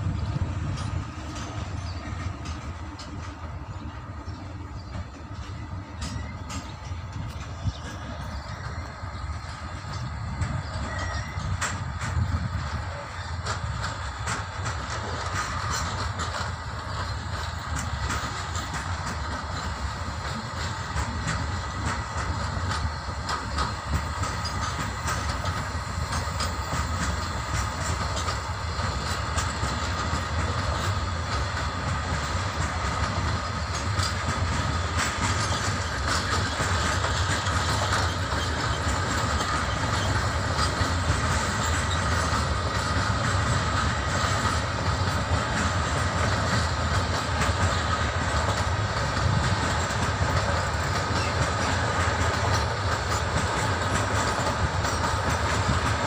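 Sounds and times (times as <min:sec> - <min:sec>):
freight train wheels clacking: 0:00.0 - 0:56.0.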